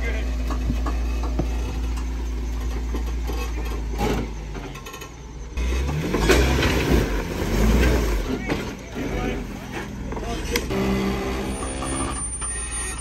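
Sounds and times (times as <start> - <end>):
off-road vehicle engine revving: 0.0 - 13.0
vehicle rattling and crunching: 0.0 - 13.0.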